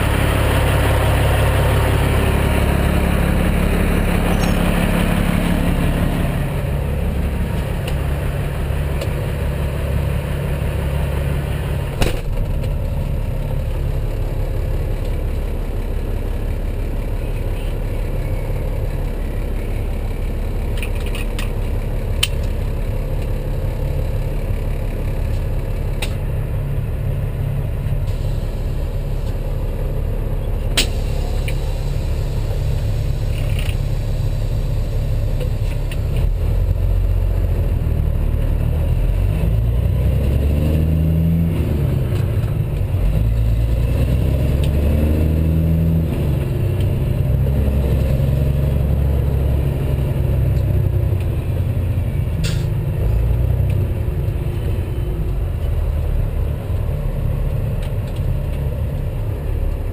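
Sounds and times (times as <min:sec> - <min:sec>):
truck diesel engine rumbling: 0:00.0 - 0:59.9.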